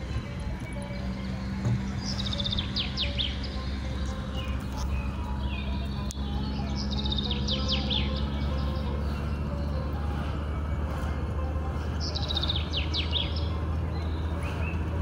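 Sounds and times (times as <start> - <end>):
birdsong trills and whistles: 0.0 - 15.0
steady low hum: 0.0 - 15.0
bird chirps: 0.1 - 10.4, 11.8 - 15.0.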